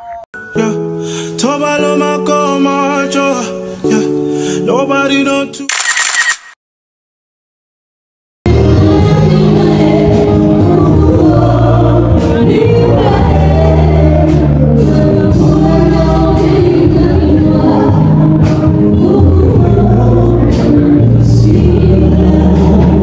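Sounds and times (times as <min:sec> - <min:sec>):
music with singing and heavy bass: 0:00.0 - 0:05.7, 0:08.5 - 0:23.0.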